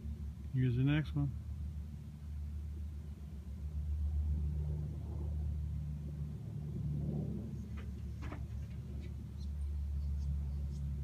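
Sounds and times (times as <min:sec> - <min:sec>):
distant aircraft engine drone: 0:00.0 - 0:11.0.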